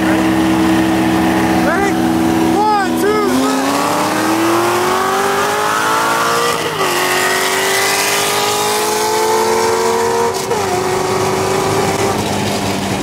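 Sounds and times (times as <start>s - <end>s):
car engines at full throttle: 0.0s - 13.0s.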